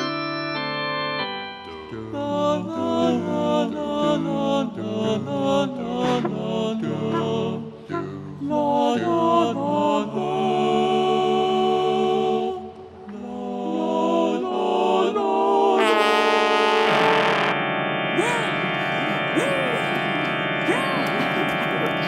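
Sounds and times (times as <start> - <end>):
choir singing chant-like harmony: 1.9 - 22.0.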